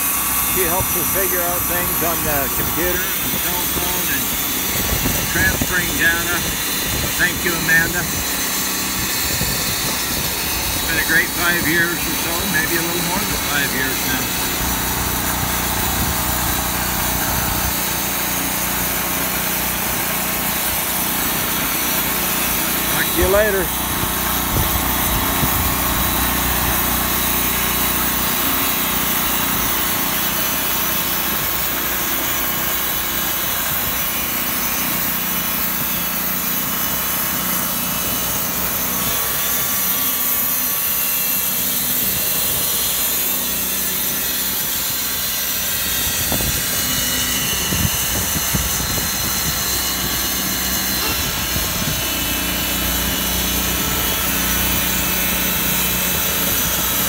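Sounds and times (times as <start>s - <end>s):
sawmill engine droning: 0.0s - 57.0s.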